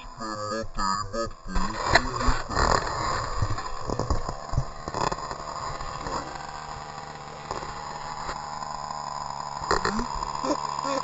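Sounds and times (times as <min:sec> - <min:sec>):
small nitro engine idling: 0:00.0 - 0:11.0.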